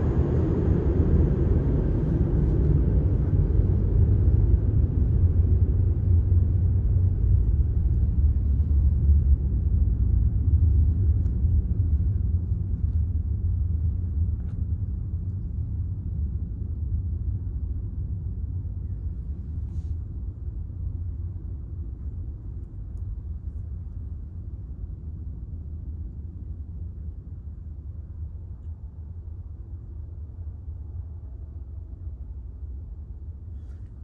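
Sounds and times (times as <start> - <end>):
ceiling fan blades rumbling: 0.0 - 34.0.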